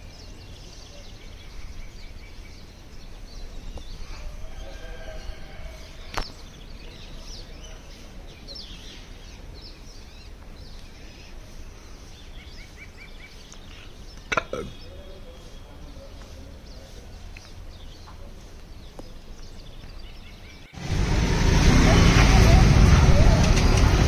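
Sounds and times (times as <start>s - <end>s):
birds chirping: 0.0s - 24.0s
low city hum: 0.0s - 24.0s.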